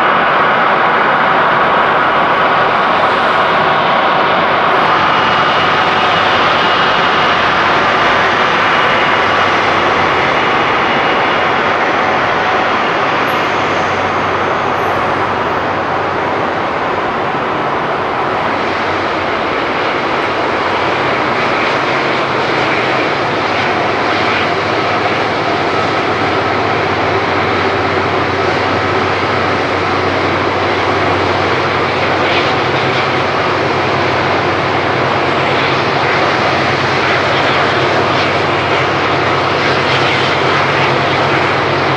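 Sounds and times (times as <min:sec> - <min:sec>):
jet engine rumble: 0:00.0 - 0:41.9
faint high whine: 0:01.1 - 0:41.9.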